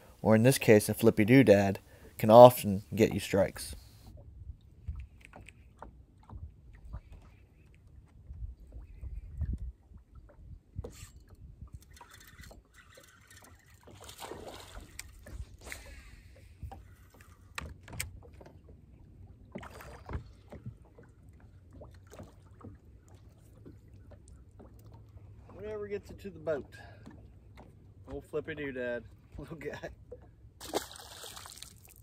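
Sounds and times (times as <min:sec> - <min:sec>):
small waves lapping against hull: 0:03.6 - 0:32.0.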